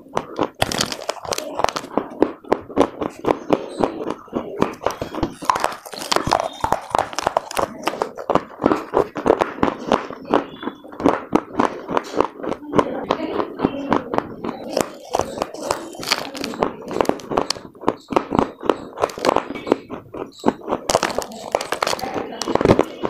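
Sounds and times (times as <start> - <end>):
chewing and crunching clay: 0.0 - 23.0.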